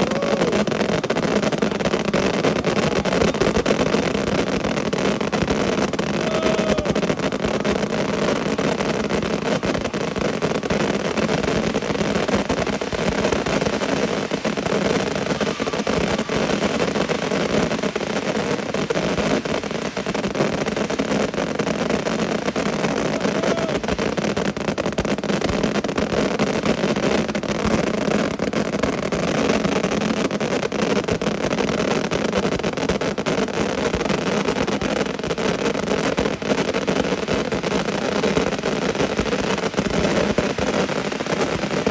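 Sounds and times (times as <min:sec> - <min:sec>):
firework barrage bangs and crackle: 0:00.0 - 0:41.9.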